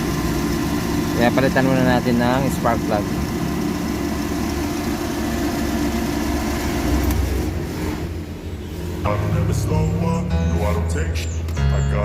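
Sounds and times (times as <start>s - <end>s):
engine idling with misfire: 0.0s - 10.3s.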